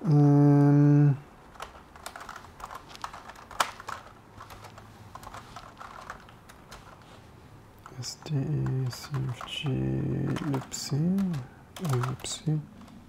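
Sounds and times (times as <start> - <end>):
computer keyboard typing clicks: 1.6 - 7.0, 7.8 - 13.0.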